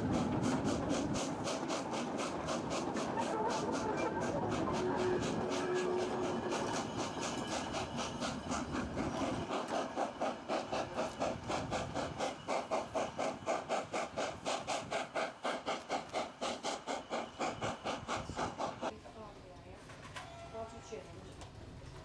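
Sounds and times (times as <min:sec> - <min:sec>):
train wagons rumbling past: 0:00.0 - 0:18.9
steam locomotive chuffing: 0:00.0 - 0:19.0.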